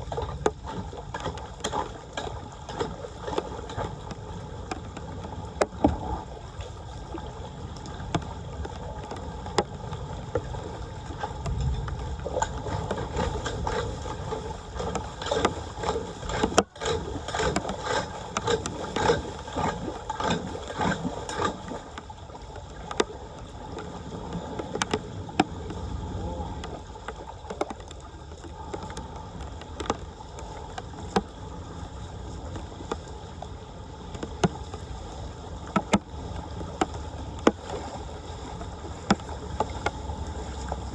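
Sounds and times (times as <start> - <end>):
floodwater splashing and churning: 0.0 - 40.9.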